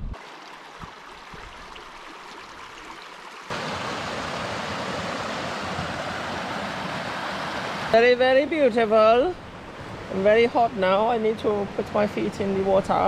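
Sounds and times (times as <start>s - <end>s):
water tumbling over rocky cascades: 0.0s - 11.8s
stream running over stones: 0.0s - 13.0s.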